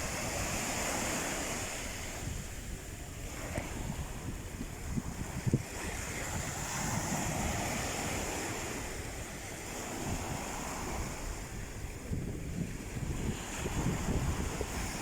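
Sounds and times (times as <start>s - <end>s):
sea waves washing onto shore: 0.0s - 15.0s
wind buffeting microphone: 0.0s - 15.0s.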